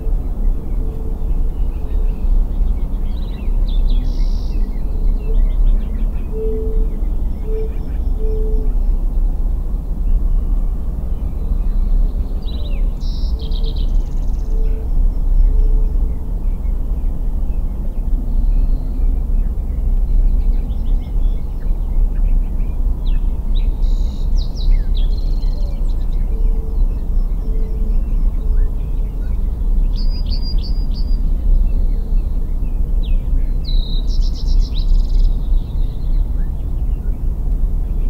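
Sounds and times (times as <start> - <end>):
birds chirping in trills: 0.0 - 38.0.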